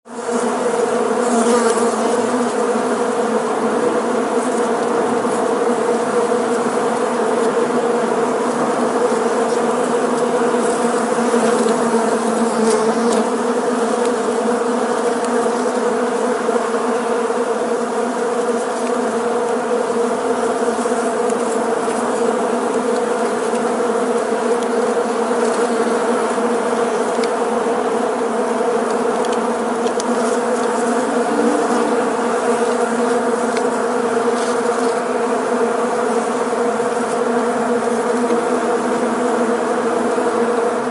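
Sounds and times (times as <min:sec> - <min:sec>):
bees buzzing: 0:00.1 - 0:40.9.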